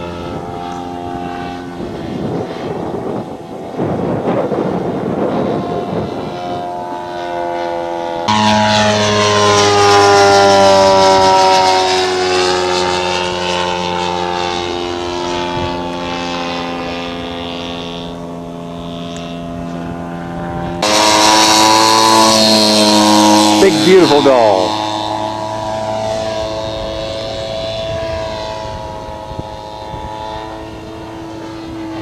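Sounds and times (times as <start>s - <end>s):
model aircraft engine passing by: 0.0s - 32.0s.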